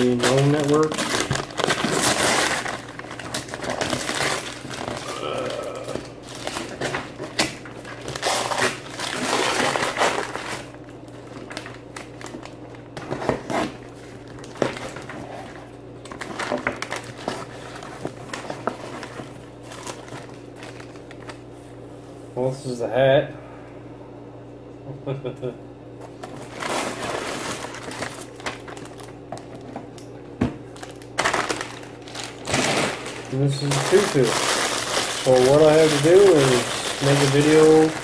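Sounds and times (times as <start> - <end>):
packing paper crinkling: 0.0 - 21.5, 26.2 - 29.8, 30.6 - 38.0
steady low hum: 0.0 - 38.0.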